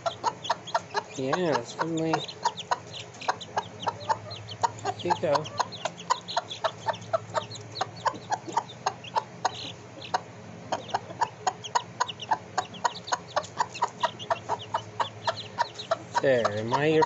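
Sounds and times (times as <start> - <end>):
chicken clucking: 0.0 - 17.0.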